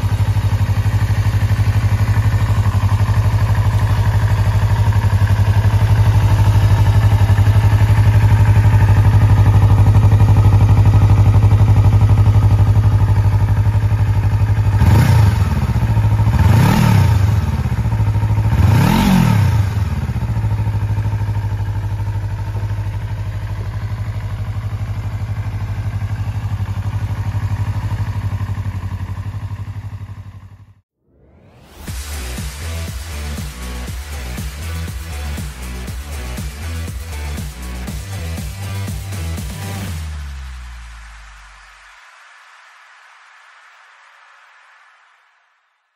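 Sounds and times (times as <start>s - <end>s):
motorcycle engine idling and revving: 0.0s - 41.7s.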